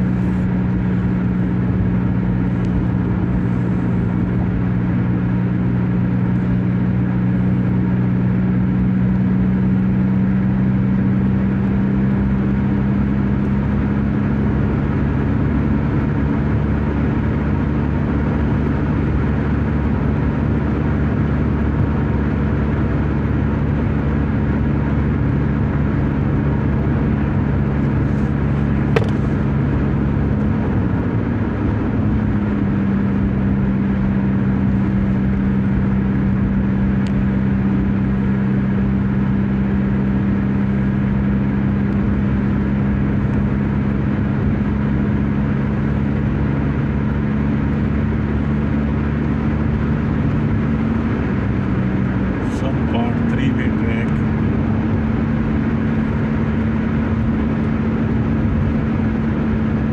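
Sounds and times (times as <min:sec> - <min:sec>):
car engine drone: 0:00.0 - 0:59.9
road and tyre noise: 0:00.0 - 0:59.9.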